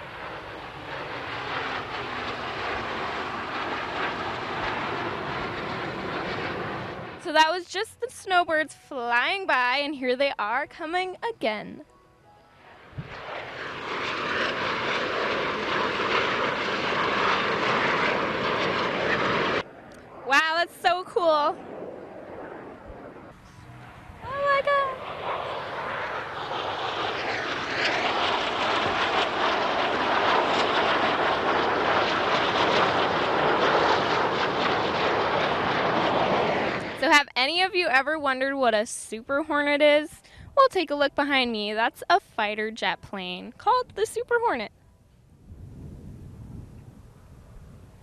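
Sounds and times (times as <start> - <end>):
jets passing low: 0.0 - 10.1, 10.9 - 48.0.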